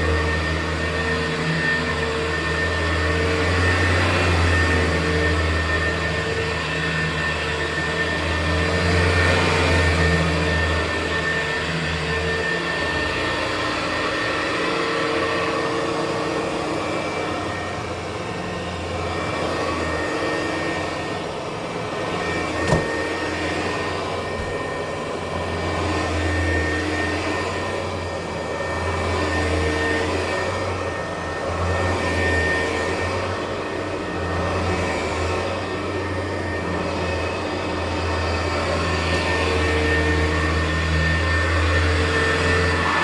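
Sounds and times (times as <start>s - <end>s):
vacuum cleaner on carpet: 0.0s - 43.0s.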